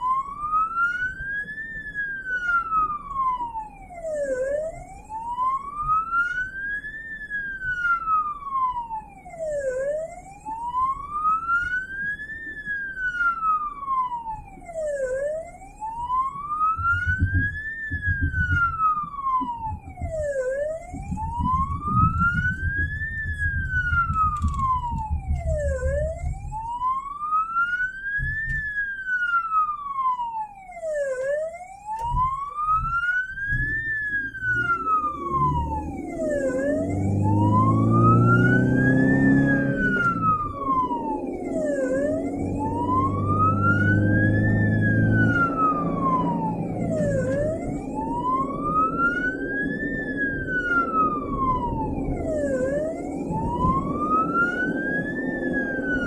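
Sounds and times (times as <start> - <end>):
ambulance siren wailing: 0.0 - 56.0
engine and road noise: 0.0 - 56.0.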